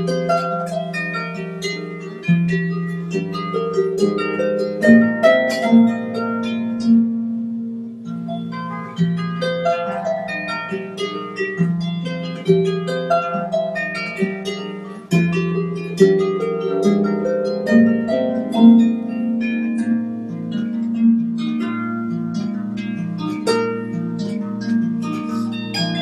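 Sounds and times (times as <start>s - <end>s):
harp music: 0.0s - 26.0s.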